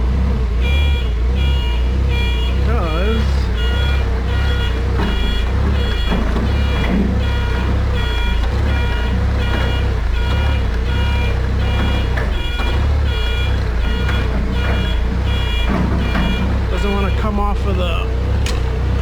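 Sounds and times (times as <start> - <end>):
forklift engine running: 0.0 - 19.0
forklift backup alarm beeping: 0.4 - 18.3.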